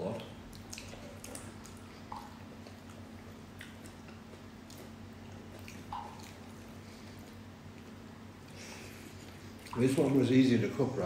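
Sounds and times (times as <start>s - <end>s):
low steady hum: 0.0s - 11.0s
person chewing: 0.4s - 9.8s.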